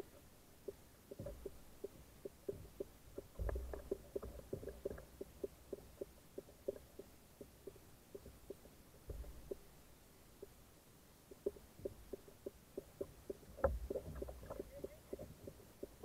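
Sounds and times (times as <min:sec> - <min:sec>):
muffled light ticks: 0:00.0 - 0:16.0.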